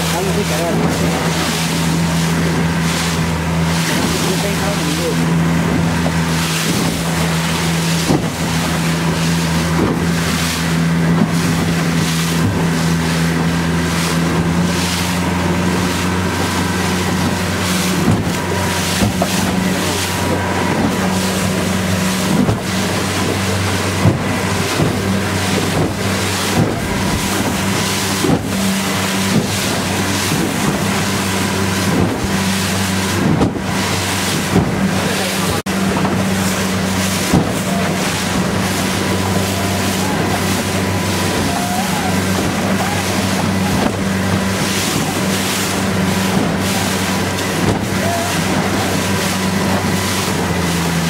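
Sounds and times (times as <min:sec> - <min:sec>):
motorboat engine running: 0:00.0 - 0:51.0
water rushing: 0:00.0 - 0:51.0
wind on microphone: 0:00.3 - 0:51.0.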